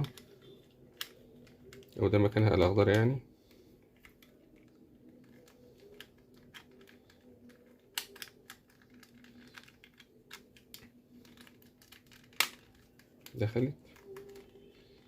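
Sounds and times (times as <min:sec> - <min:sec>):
plastic puzzle pieces clicking: 0:00.0 - 0:02.0, 0:03.9 - 0:15.0.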